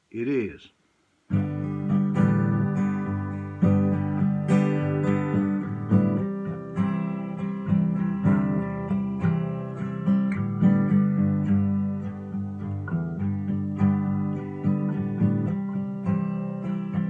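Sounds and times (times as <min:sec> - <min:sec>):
acoustic guitar strumming: 0:01.3 - 0:17.0.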